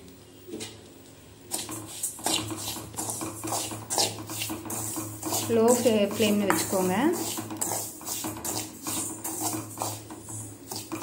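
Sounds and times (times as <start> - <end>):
metal spoon scraping steel pan: 1.5 - 11.0.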